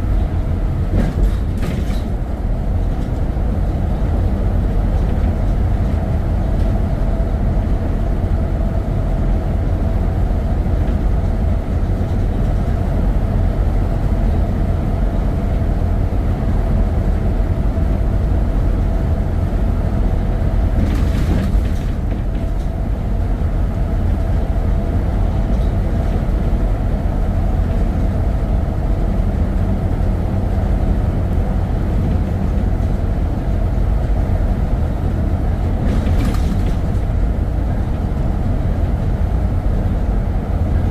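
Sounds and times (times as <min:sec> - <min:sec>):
vehicle engine and road noise: 0:00.0 - 0:40.9.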